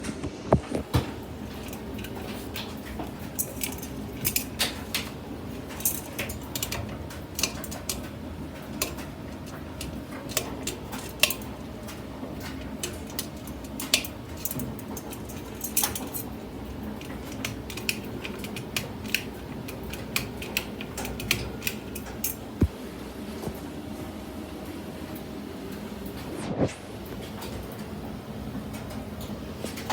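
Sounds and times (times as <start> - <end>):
ceiling fan humming: 0.0 - 29.9.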